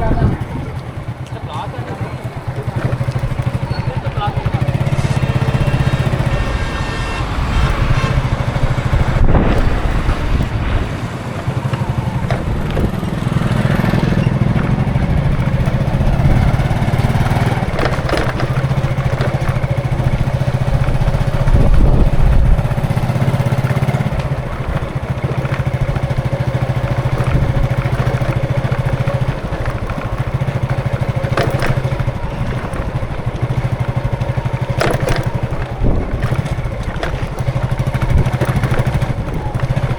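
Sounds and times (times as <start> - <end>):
motorcycle engines: 0.0 - 39.9
road traffic passing: 0.0 - 39.9.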